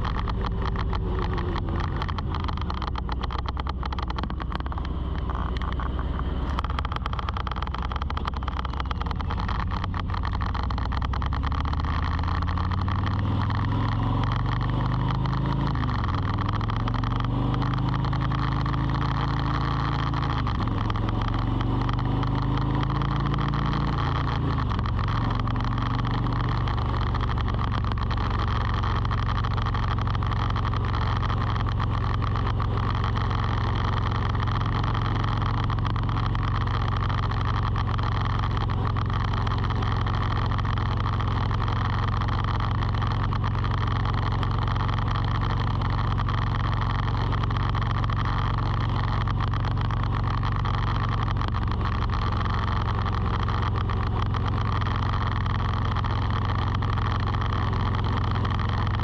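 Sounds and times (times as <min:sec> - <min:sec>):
constant high whine: 0:00.0 - 0:59.0.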